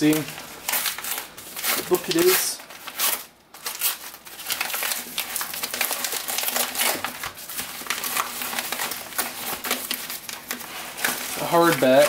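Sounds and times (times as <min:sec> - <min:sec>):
paper envelope tearing and crinkling: 0:00.0 - 0:12.0.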